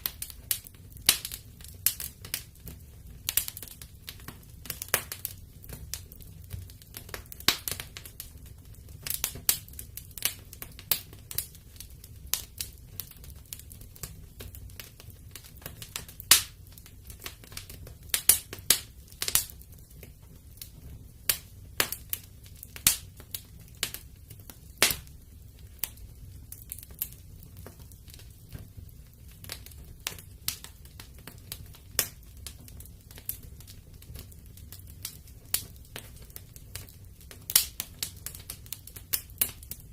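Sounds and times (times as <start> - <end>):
fire snapping and popping: 0.0 - 39.9
flames rumbling: 0.0 - 39.9
wood fire crackling: 0.0 - 39.9.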